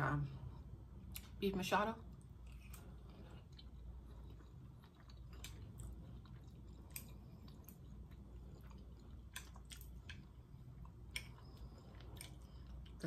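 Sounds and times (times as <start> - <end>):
person chewing: 2.1 - 13.0.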